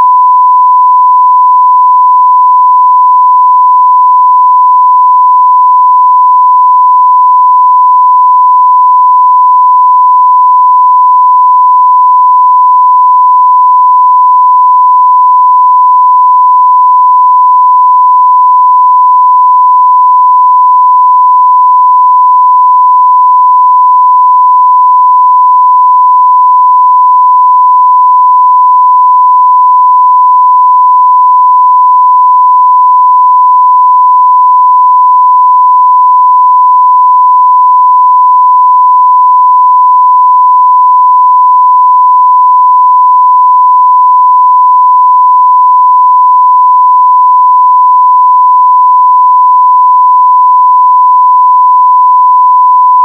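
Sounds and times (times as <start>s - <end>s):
sine wave test tone: 0.0s - 53.0s.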